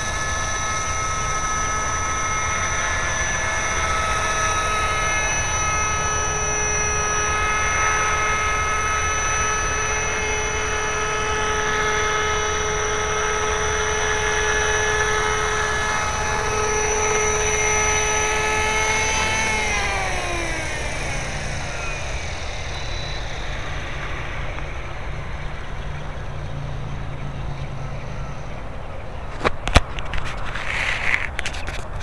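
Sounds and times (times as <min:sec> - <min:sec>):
model helicopter rotor whining: 0:00.0 - 0:32.0.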